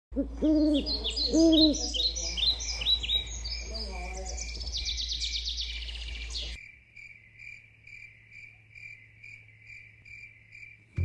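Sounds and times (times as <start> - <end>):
crickets chirping: 1.0 - 11.0.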